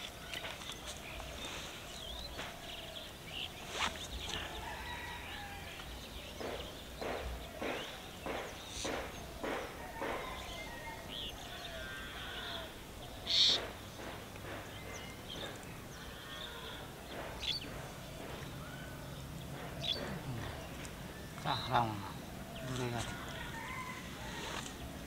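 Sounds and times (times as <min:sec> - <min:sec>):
birds chirping: 0:00.0 - 0:25.0
rural outdoor background noise: 0:00.0 - 0:25.0
rustling grass and stems: 0:00.0 - 0:25.0.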